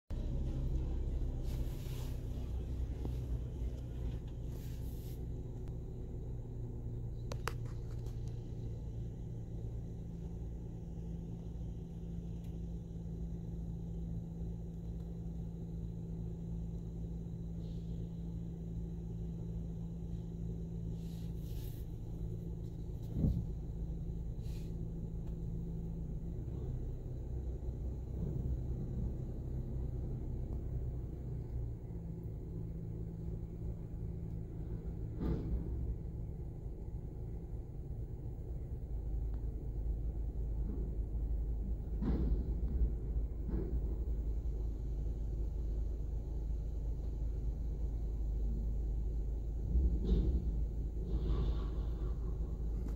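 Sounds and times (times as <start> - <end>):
diesel truck engine running: 0.1 - 52.9.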